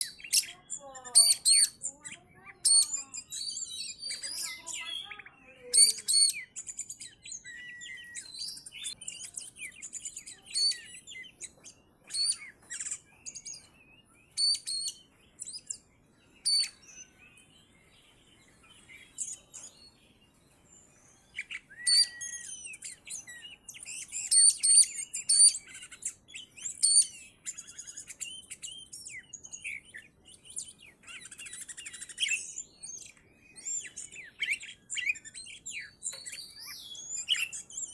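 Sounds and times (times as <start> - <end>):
bird singing whistled phrases: 0.0 - 37.9.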